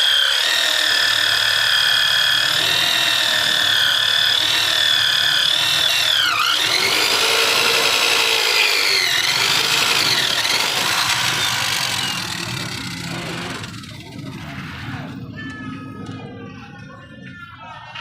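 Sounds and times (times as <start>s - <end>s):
electric drill boring into steel: 0.0s - 14.9s.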